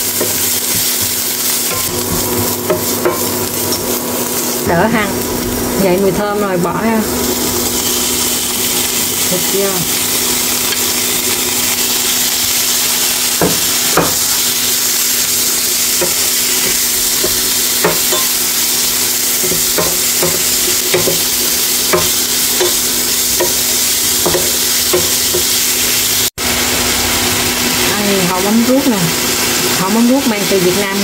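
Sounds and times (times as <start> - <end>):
meat sizzling in oil: 0.0 - 31.0.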